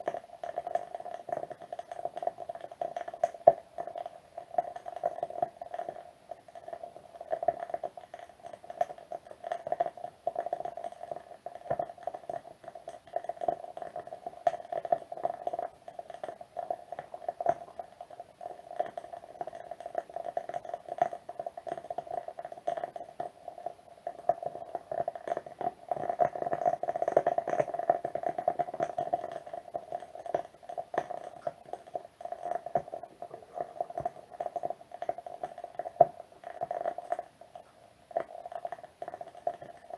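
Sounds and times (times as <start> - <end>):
wood wick candle crackling: 0.0 - 39.9.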